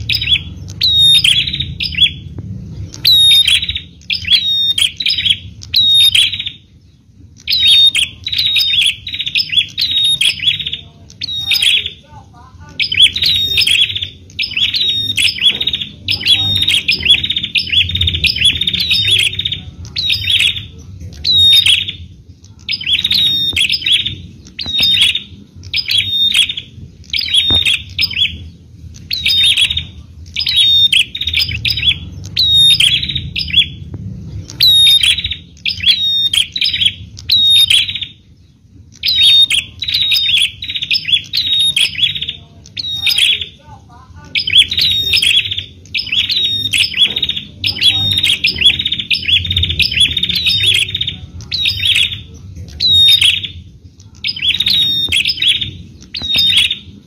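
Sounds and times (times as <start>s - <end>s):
bird chirping: 0.0s - 57.0s
faint low rumble: 0.0s - 57.0s.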